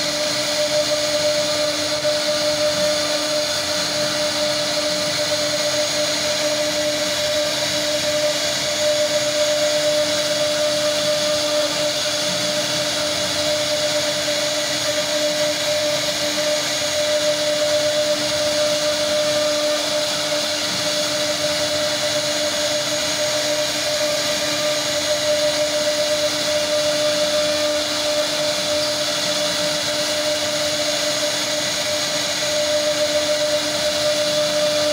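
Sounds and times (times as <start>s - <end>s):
router spindle whining: 0.0s - 34.9s.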